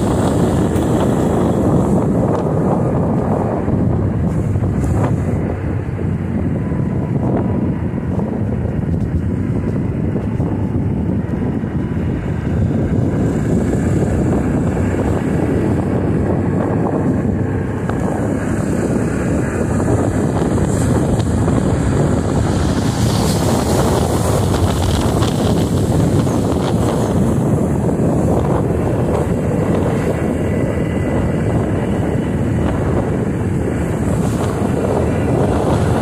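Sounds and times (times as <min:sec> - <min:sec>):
motorcycle engine: 0:00.0 - 0:36.0
road noise: 0:00.0 - 0:36.0
wind rushing over microphone: 0:00.0 - 0:36.0.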